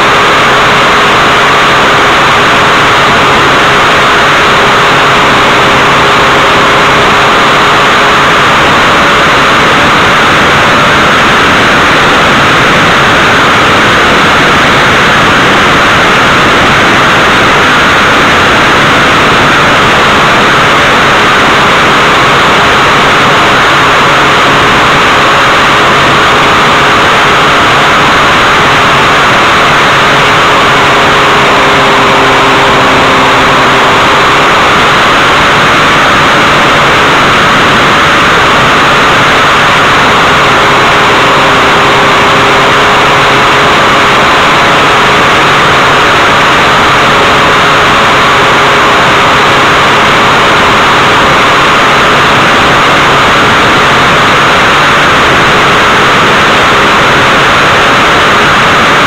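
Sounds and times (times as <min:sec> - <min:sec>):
aircraft engine and airflow noise: 0:00.0 - 0:59.0
faint engine tone: 0:00.0 - 0:59.0.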